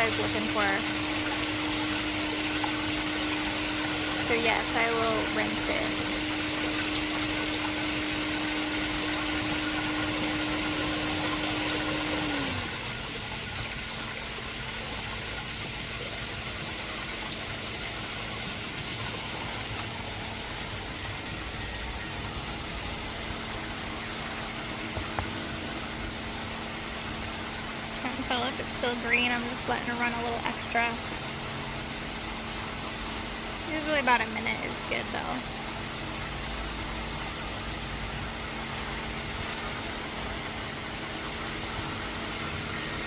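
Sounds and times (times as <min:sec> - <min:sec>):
pool pump motor humming: 0:00.0 - 0:43.0.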